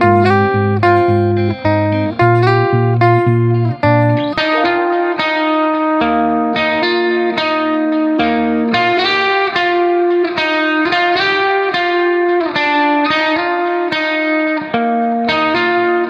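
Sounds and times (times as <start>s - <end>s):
slow guitar melody: 0.0s - 16.0s.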